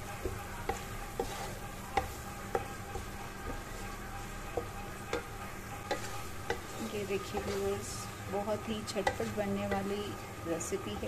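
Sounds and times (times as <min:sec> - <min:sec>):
masala sizzling in hot oil: 0:00.0 - 0:11.0
spatula knocking and scraping pan: 0:00.0 - 0:11.0.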